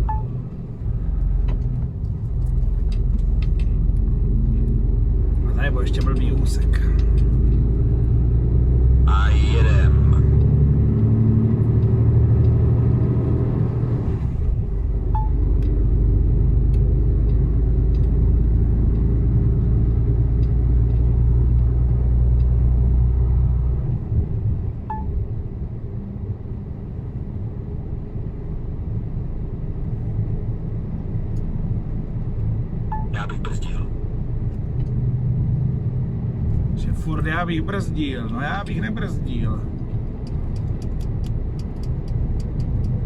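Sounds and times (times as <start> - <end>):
truck diesel engine from cab: 0.0 - 27.6, 32.4 - 43.0.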